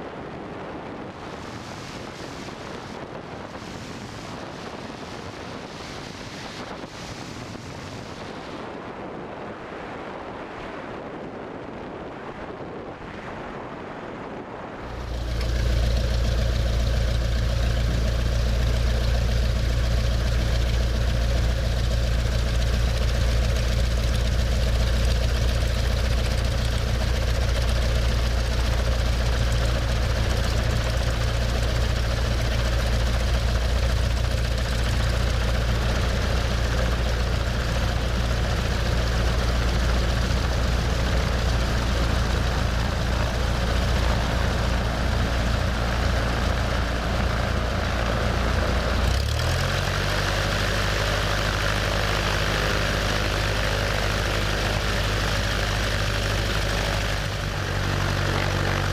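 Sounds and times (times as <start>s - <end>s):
airplane piston engine and propeller: 0.0s - 58.9s.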